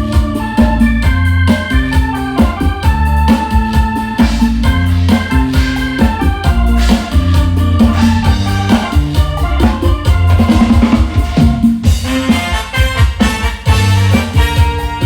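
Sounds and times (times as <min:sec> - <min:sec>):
electronic keyboard chords: 0:00.0 - 0:15.0
heavy bass: 0:00.0 - 0:15.0
drum hits: 0:01.0 - 0:15.0.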